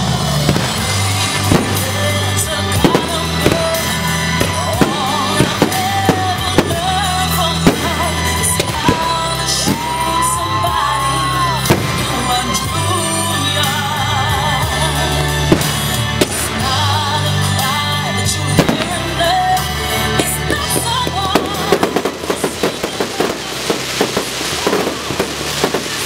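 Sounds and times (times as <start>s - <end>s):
fireworks bangs: 0.0s - 26.0s
loud music with singing: 0.0s - 26.0s.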